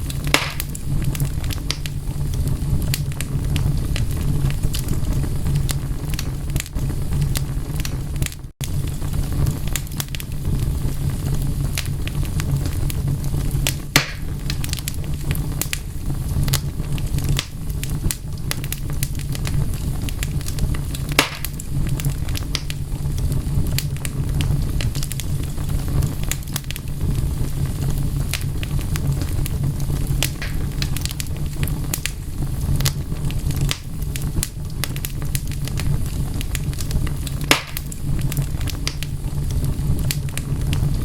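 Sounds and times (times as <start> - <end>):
low rumble of burning: 0.0 - 41.0
wood fire popping and snapping: 0.0 - 41.0.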